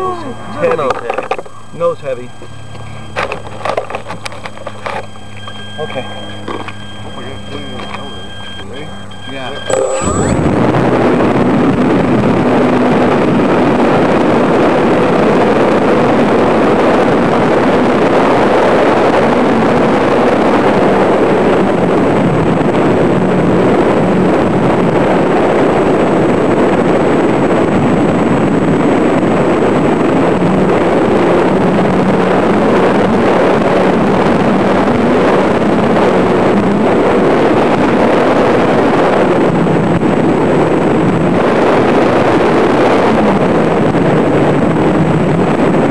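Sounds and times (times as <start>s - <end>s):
wind noise on microphone: 0.0s - 45.9s.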